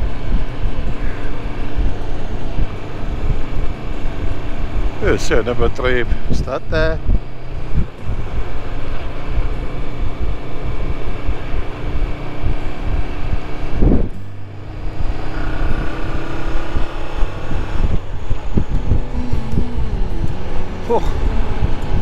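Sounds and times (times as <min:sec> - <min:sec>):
motorcycle engine running: 0:00.0 - 0:05.3, 0:06.0 - 0:22.0
wind noise on microphone: 0:00.0 - 0:22.0.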